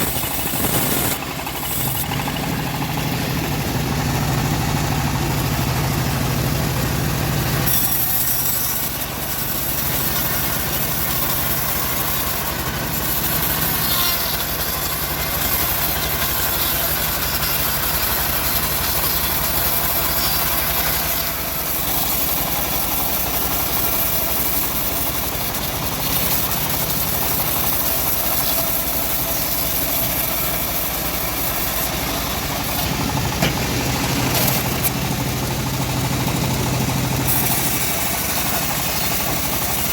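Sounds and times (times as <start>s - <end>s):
bandsaw blade cutting log: 0.0s - 39.9s
engine drone: 0.0s - 39.9s.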